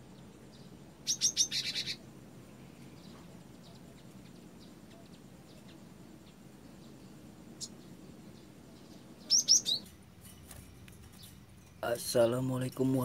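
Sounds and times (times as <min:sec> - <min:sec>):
bird calling with buzzy rattle: 0:00.0 - 0:02.1, 0:02.7 - 0:13.0
faint bird chirps: 0:00.0 - 0:13.0.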